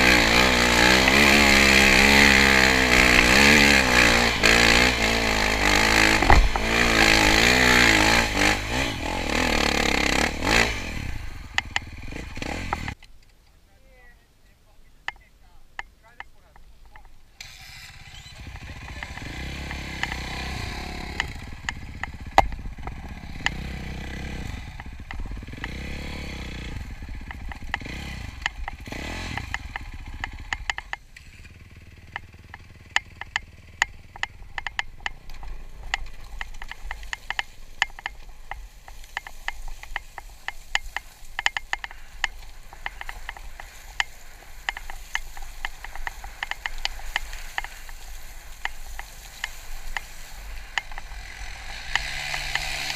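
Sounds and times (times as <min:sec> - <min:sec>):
dirt bike engine revving: 0:00.0 - 0:13.0, 0:17.4 - 0:52.9
stones crackling under tyres: 0:00.0 - 0:14.1, 0:14.7 - 0:52.9.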